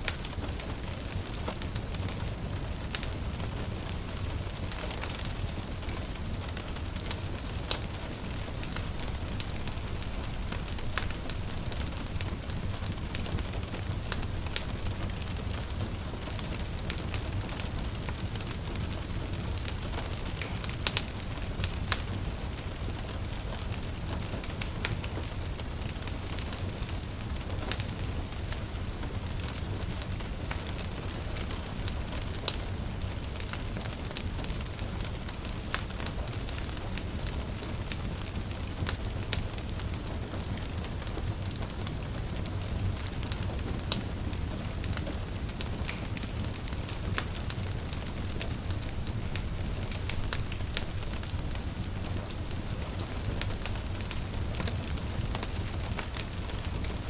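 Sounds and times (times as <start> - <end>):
soft rain hiss: 0.0 - 57.0
wood fire crackling and popping: 0.0 - 57.0.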